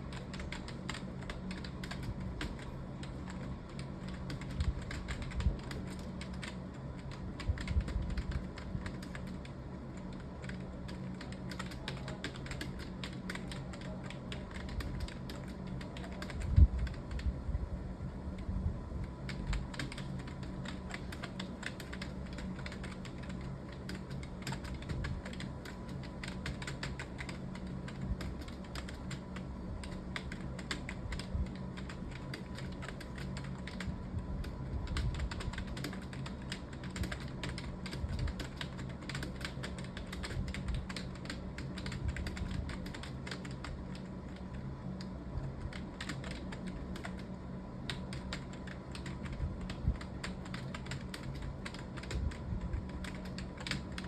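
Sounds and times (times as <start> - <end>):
fast typing on keyboard: 0.0 - 17.4, 19.1 - 54.0
faint steady hum: 0.0 - 54.0.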